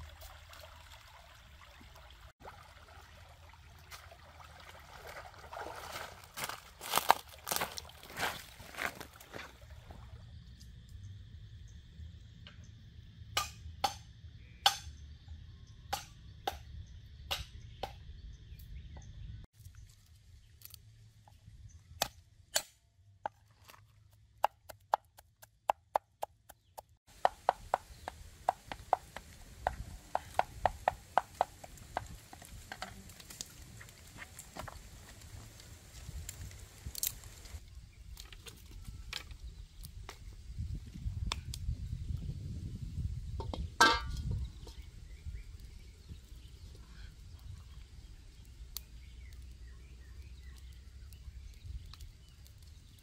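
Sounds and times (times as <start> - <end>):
low outdoor background: 0.0 - 53.0.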